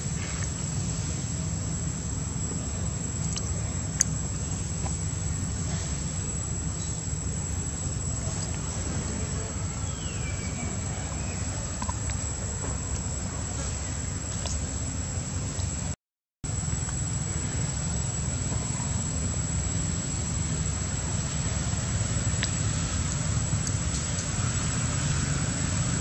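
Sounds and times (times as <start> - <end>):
high insect drone: 0.0 - 26.0.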